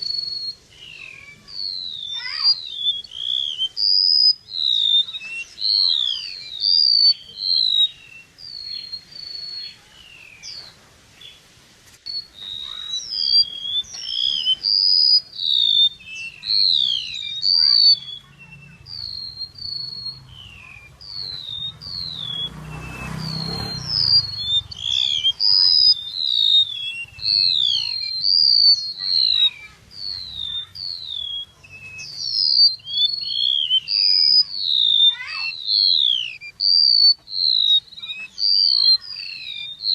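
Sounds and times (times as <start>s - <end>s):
bird whistling rapid high notes: 0.0s - 10.6s, 12.0s - 39.9s.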